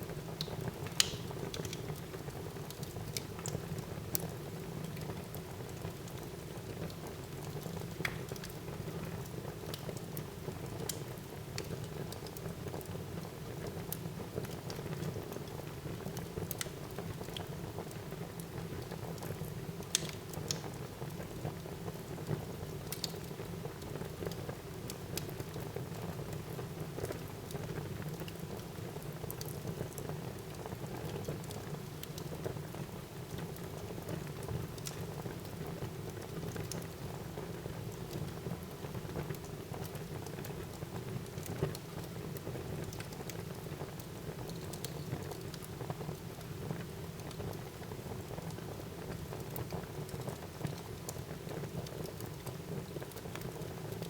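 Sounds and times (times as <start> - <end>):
fire crackles and pops: 0.1 - 54.0
wood fire burning: 0.1 - 54.0.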